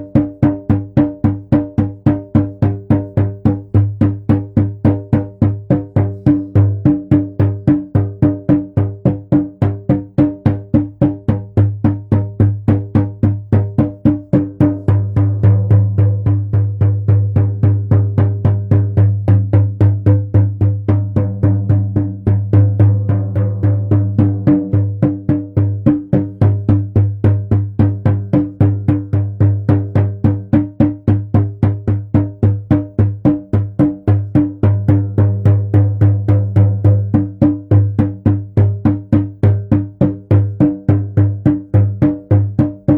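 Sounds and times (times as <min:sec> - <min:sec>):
hand drum beating: 0:00.0 - 0:42.9.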